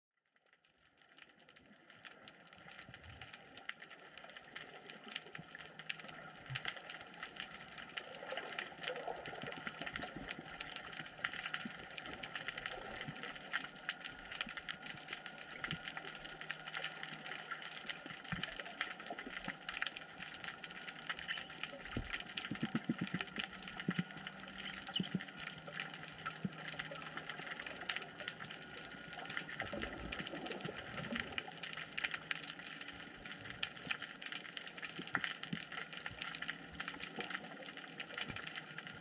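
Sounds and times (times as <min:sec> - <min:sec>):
low underwater hum: 0:00.2 - 0:39.0
underwater crackle of clicks: 0:00.4 - 0:39.0.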